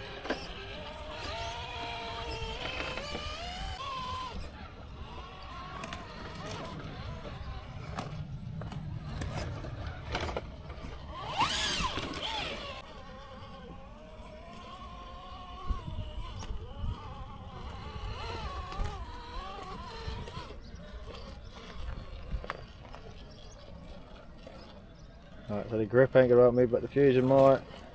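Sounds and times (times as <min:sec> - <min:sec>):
electric motor whining: 0:00.0 - 0:27.9.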